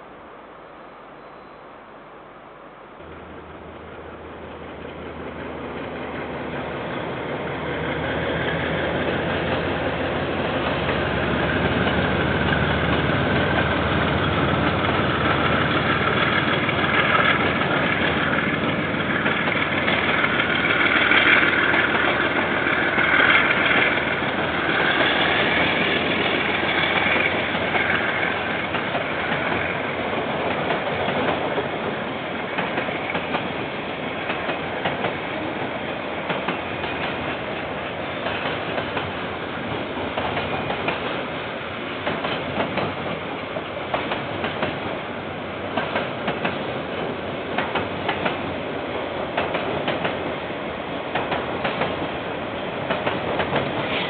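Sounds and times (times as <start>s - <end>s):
locomotive engine rumble: 3.0s - 54.0s
train wheels rushing on rails: 3.0s - 54.0s.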